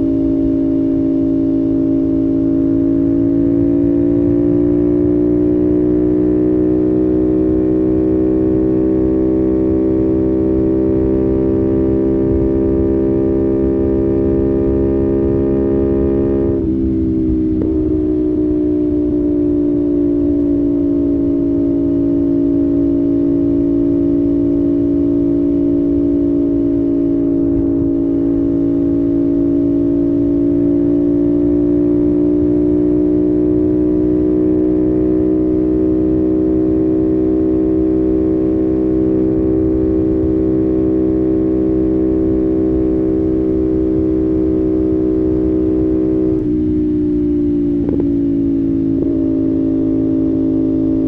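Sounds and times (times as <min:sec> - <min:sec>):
motorcycle engine cruising: 0:00.0 - 0:51.0
wind and road noise: 0:00.0 - 0:51.0.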